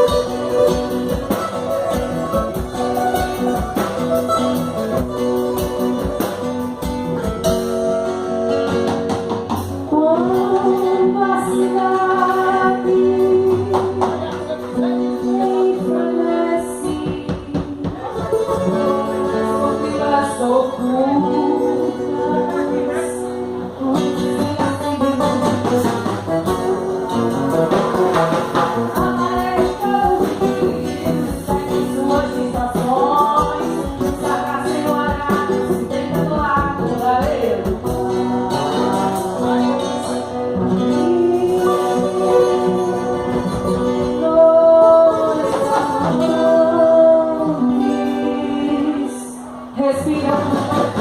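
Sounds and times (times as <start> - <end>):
guitar: 0.0 - 51.0
live band music: 0.0 - 51.0
person singing: 9.8 - 51.0.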